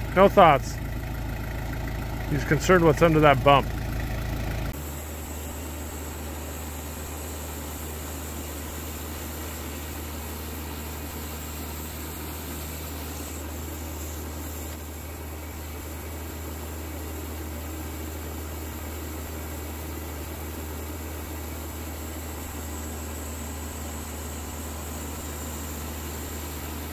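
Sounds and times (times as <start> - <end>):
bandsaw sawmill cutting log: 1.4 - 3.7, 4.7 - 26.9.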